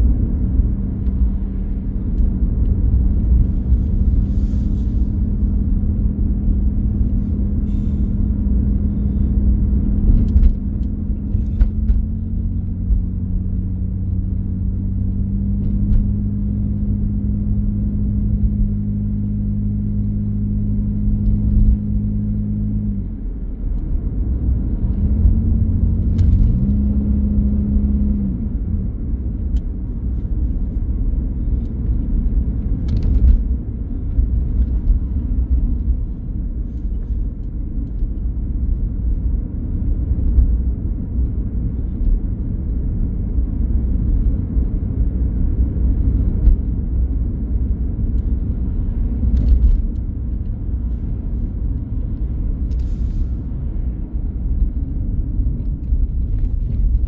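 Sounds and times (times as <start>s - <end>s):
low engine hum: 0.0s - 57.0s
tyre and road rumble: 0.0s - 57.0s.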